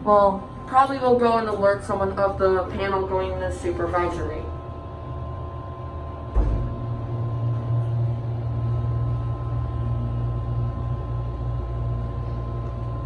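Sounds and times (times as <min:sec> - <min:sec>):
elevator low hum: 0:00.0 - 0:13.0.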